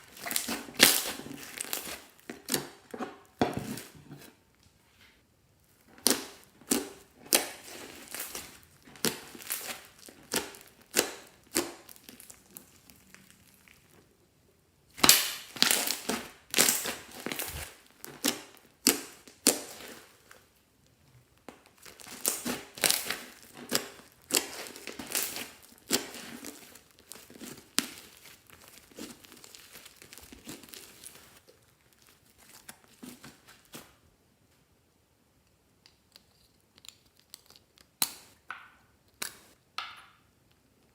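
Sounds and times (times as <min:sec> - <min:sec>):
crackling crinkling handling noise: 0:00.0 - 0:14.1, 0:15.0 - 0:34.6.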